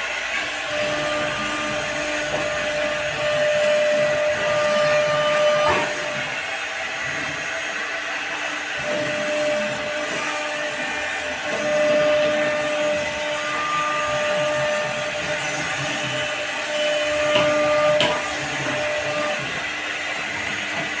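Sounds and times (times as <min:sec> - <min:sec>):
router spindle cutting with whine: 0:00.0 - 0:21.0.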